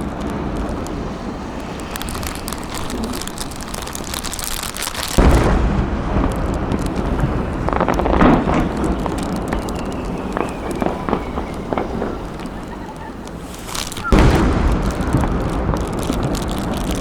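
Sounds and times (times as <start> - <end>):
deep firework boom: 0.0 - 12.7, 13.4 - 17.0
fireworks crackling: 0.0 - 17.0.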